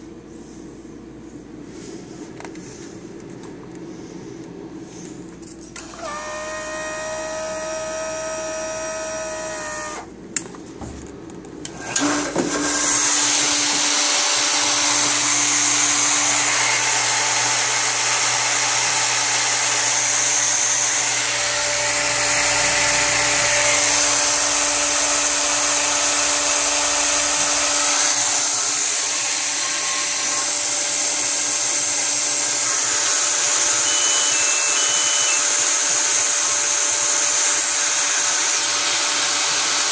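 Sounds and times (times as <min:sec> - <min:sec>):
electric water pump whirring: 0:05.8 - 0:10.1, 0:11.6 - 0:39.9.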